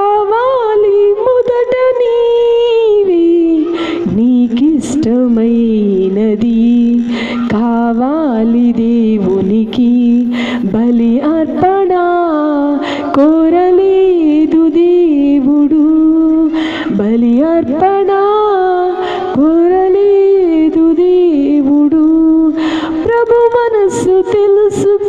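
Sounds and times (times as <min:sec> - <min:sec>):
woman singing into microphone: 0:00.0 - 0:25.0.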